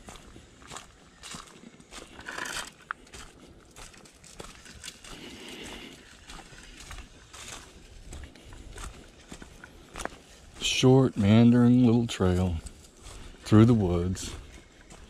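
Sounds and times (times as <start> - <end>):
footsteps crackling on trail: 0.0 - 15.0.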